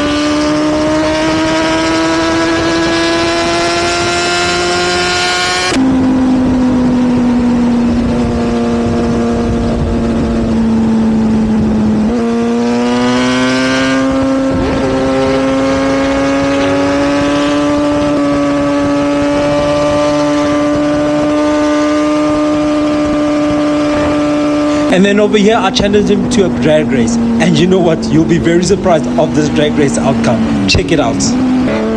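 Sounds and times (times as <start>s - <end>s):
motorcycle engine at high revs: 0.0s - 31.9s.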